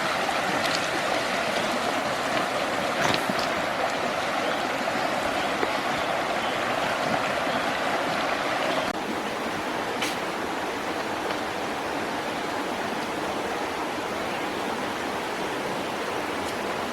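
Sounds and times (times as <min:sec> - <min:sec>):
running water rushing: 0:00.0 - 0:16.9.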